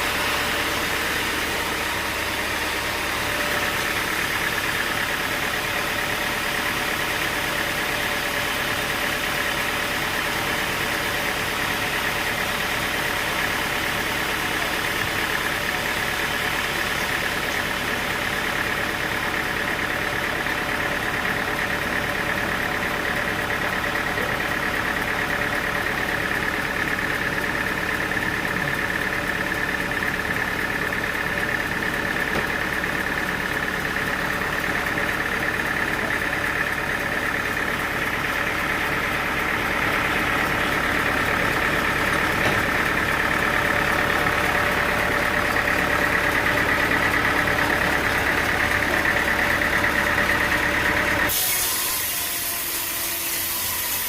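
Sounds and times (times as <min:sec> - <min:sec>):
sawmill engine hum: 0:00.0 - 0:54.0.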